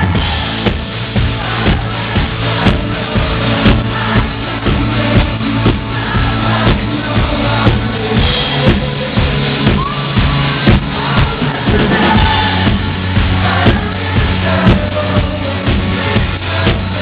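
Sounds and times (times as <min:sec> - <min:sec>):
drum beat: 0:00.0 - 0:17.0
rock band playing live: 0:00.0 - 0:17.0
person singing over pa: 0:01.4 - 0:17.0.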